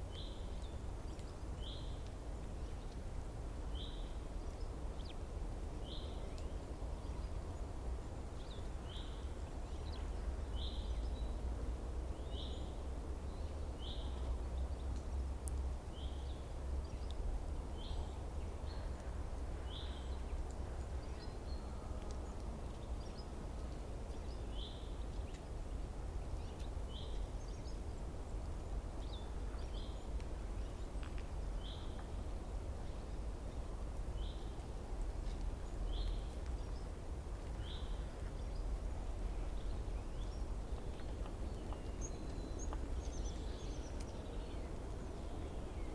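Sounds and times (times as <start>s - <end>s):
low outdoor rumble: 0.0s - 45.9s.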